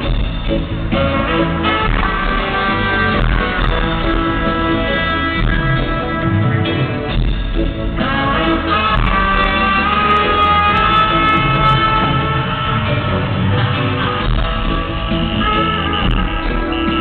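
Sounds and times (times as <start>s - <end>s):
reggae band playing live: 0.0s - 17.0s.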